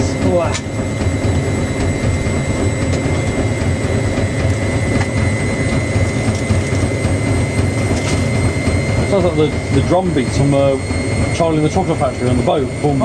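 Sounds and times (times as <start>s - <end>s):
high whine: 0.0s - 13.0s
washing machine spinning: 0.0s - 13.0s.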